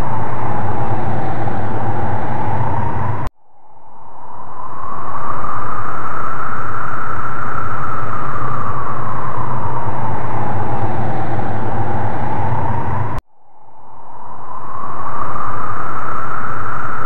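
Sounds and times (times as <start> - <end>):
loud rushing noise with whine: 0.0 - 17.0
low hum: 0.0 - 17.0.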